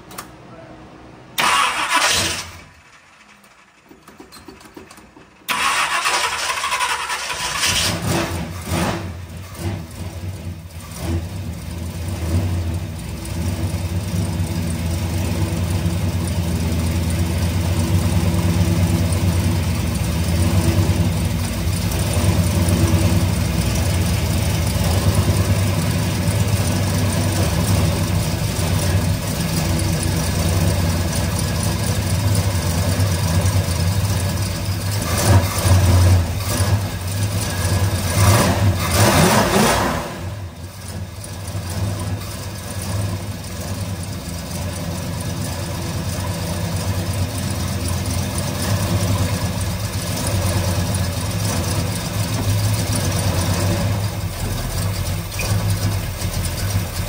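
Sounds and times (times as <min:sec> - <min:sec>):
car engine idling: 0:01.4 - 0:57.0.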